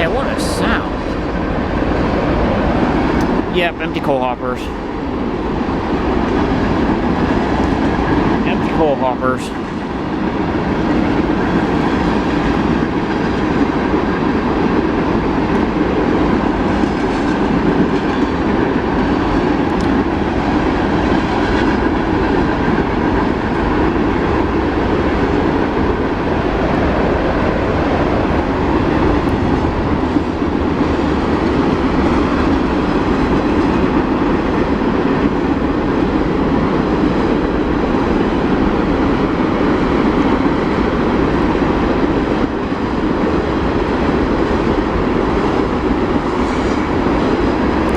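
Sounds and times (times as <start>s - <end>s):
train cars rumbling and clattering: 0.0s - 47.9s.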